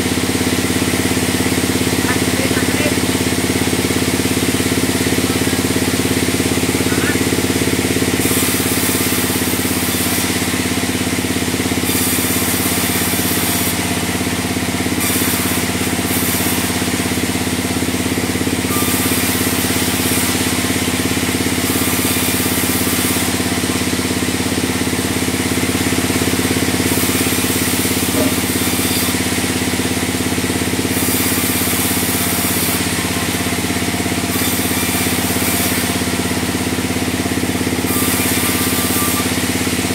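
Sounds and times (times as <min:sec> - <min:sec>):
band saw droning: 0:00.0 - 0:39.9.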